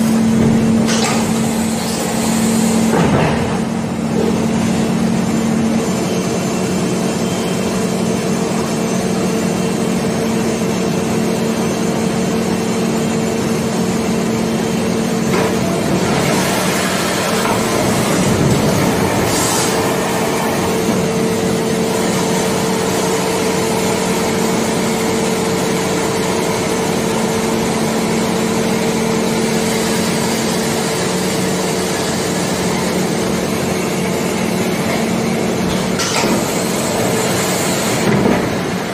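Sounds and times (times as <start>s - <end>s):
hydraulic equipment humming: 0.0s - 38.9s.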